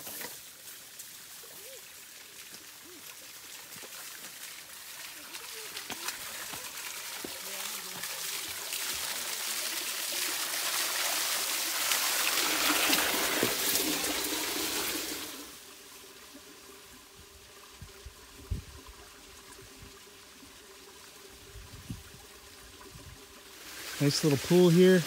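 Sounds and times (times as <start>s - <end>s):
water pouring into rocky pool: 0.0s - 25.0s.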